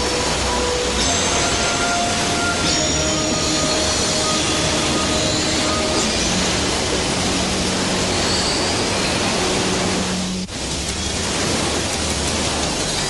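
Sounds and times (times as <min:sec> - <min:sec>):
churning water rushing: 0:00.0 - 0:13.0.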